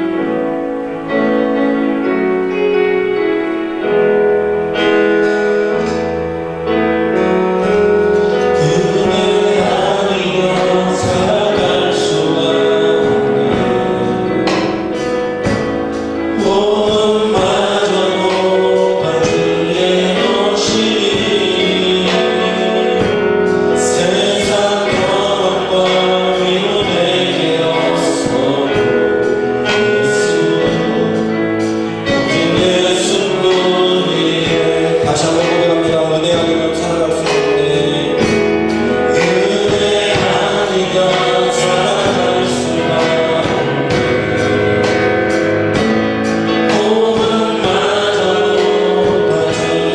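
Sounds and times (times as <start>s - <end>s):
band instrumental accompaniment: 0.0s - 49.9s
congregation singing praise song: 0.0s - 49.9s.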